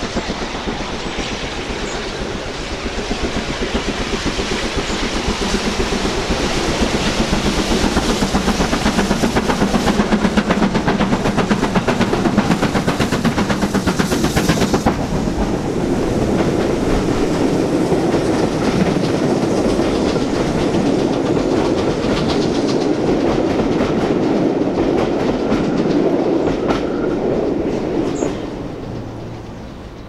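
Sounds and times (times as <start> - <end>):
steam locomotive exhaust beats: 0.0 - 30.0
train coaches rolling past: 0.0 - 30.0
wheels clicking over rail joints: 0.0 - 30.0.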